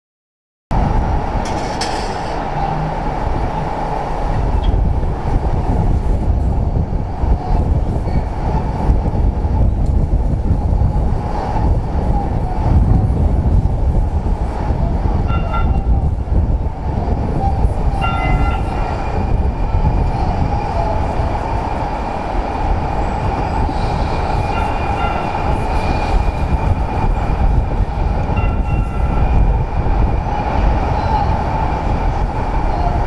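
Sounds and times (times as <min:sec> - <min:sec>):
train rumbling past: 0:00.7 - 0:33.0.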